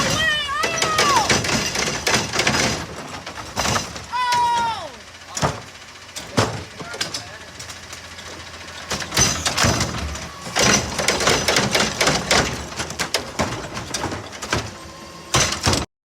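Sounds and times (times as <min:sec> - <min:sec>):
clattering knocks and bangs: 0:00.0 - 0:15.9.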